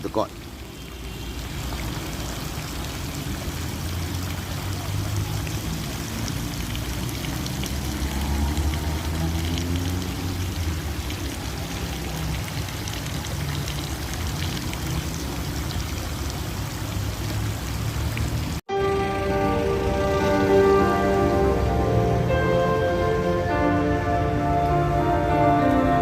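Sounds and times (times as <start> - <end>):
water running and splashing: 0.0 - 26.0.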